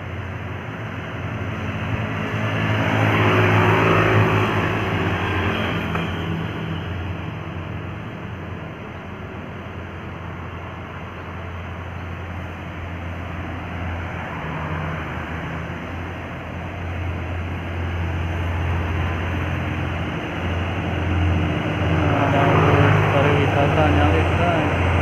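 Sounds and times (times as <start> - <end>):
heavy vehicle engine rumble: 0.0 - 25.0
road noise: 0.0 - 25.0.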